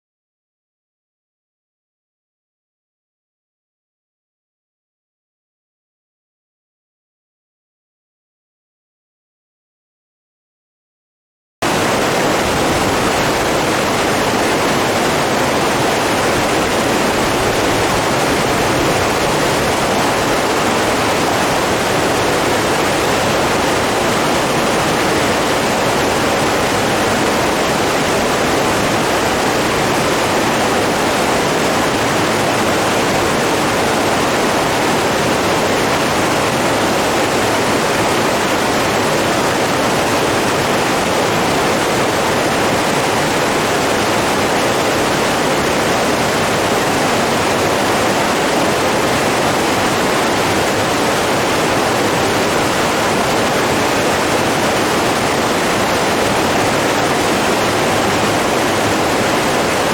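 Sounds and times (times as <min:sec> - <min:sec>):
rush of running water: 0:11.6 - 0:59.9.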